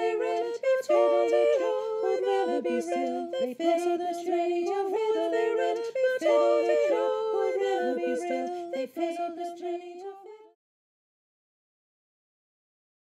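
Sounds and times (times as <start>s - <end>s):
unaccompanied voices singing a round: 0.0s - 10.6s.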